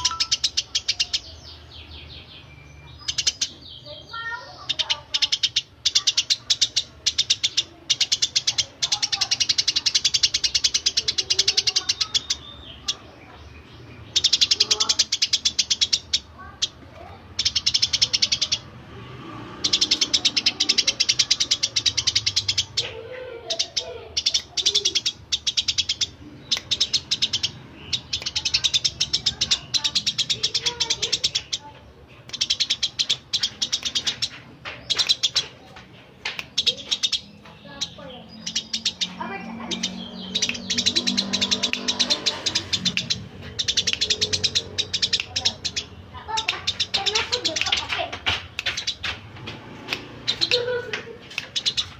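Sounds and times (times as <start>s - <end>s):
sparrows chirping: 0.0s - 51.9s.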